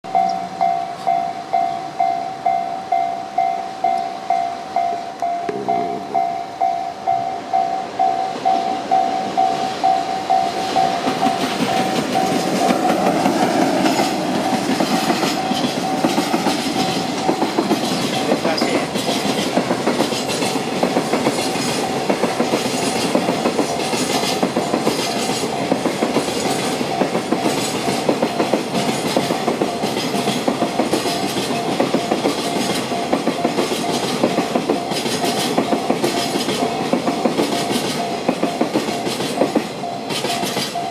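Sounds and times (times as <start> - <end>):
level crossing warning bell: 0.0 - 40.9
train wheels clacking on rail joints: 2.9 - 40.9.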